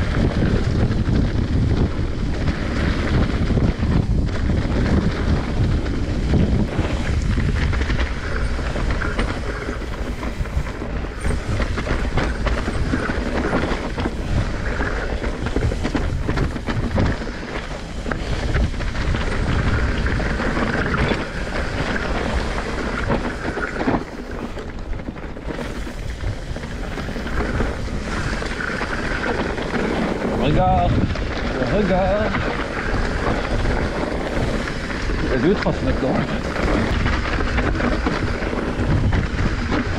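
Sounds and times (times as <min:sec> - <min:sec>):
bike rattling and knocking: 0:00.0 - 0:39.9
wind rumble on microphone: 0:00.0 - 0:39.9
tyres crunching over dry leaves: 0:05.4 - 0:39.9.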